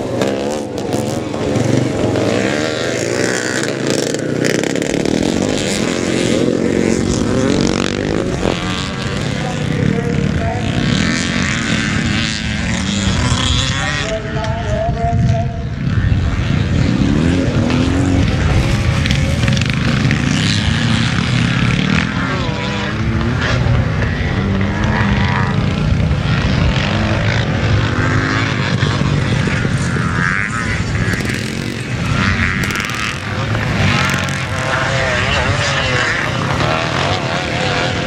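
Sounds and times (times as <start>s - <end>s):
motocross bikes revving: 0.0s - 38.0s.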